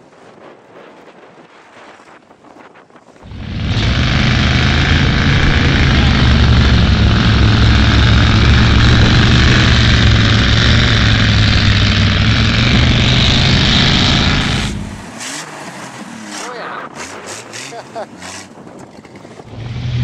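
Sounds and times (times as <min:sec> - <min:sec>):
truck engine running at high revs: 0:03.2 - 0:20.0.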